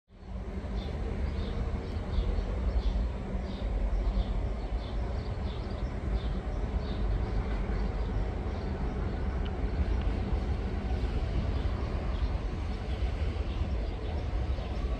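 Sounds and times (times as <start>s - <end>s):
diesel locomotive rumbling: 0.1s - 14.9s.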